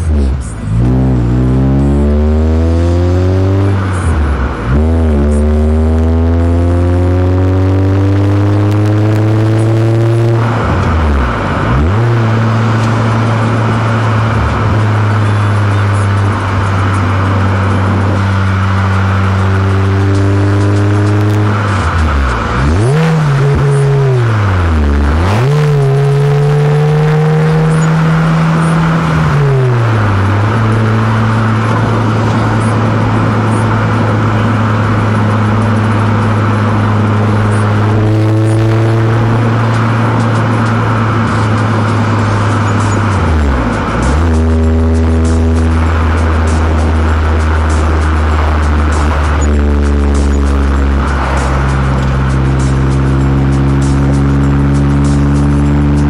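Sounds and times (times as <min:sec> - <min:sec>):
car engine and exhaust drone: 0:00.0 - 0:56.0.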